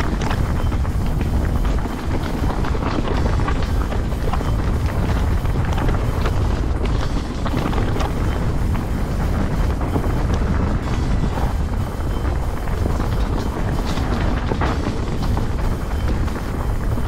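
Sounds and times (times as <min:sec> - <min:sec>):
bike rattling on rocky trail: 0:00.0 - 0:17.0
wind buffeting microphone: 0:00.0 - 0:17.0.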